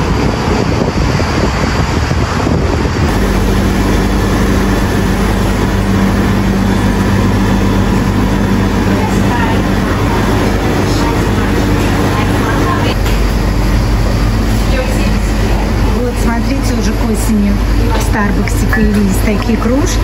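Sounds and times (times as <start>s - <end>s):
low machine hum: 0.0s - 20.0s
wind buffeting microphone: 0.0s - 20.0s.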